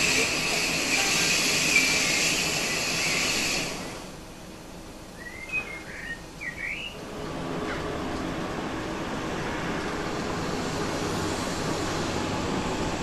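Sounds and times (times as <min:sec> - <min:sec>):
standing train hissing: 0:00.0 - 0:04.4, 0:05.0 - 0:13.0.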